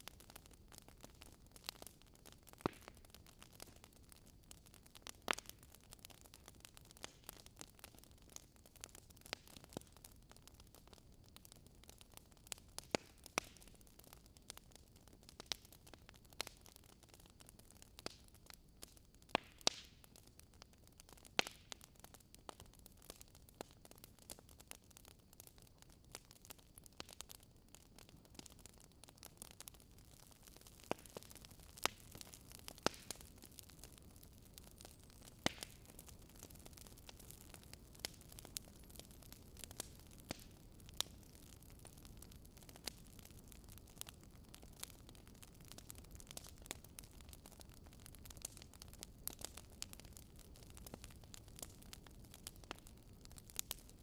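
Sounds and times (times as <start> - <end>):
faint steady hiss: 0.0 - 54.0
wood fire crackling: 0.0 - 54.0.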